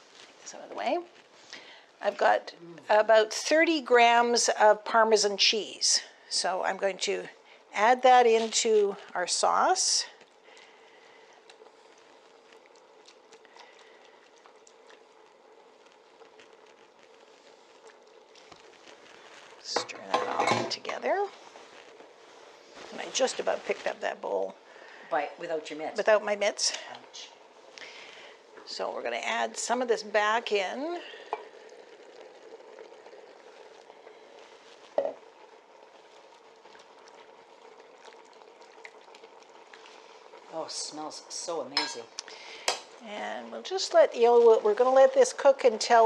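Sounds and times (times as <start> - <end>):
low sizzling in pot: 0.0 - 46.0.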